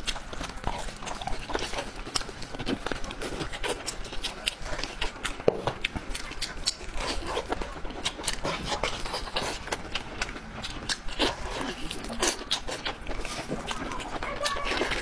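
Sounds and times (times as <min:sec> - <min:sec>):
wet chewing and lip smacks: 0:00.0 - 0:15.0.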